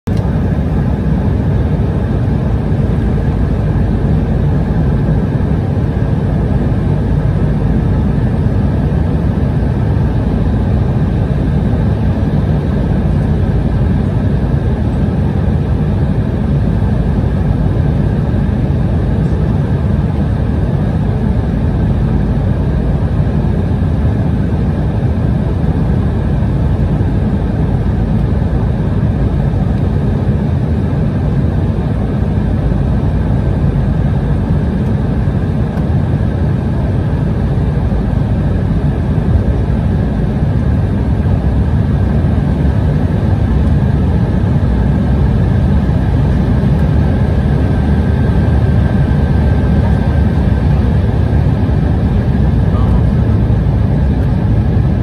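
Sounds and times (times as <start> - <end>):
airliner engines roaring: 0.1 - 55.0.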